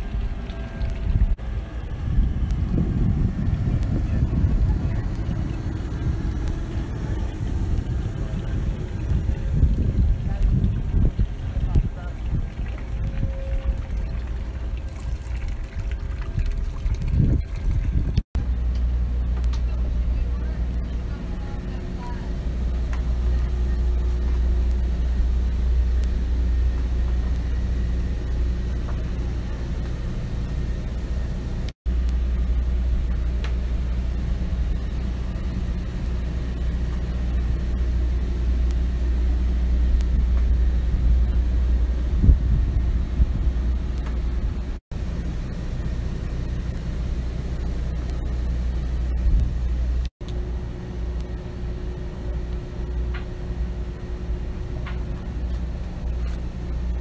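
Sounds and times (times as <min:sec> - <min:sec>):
faint hum: 0:00.0 - 0:57.0
low machine rumble: 0:00.0 - 0:57.0.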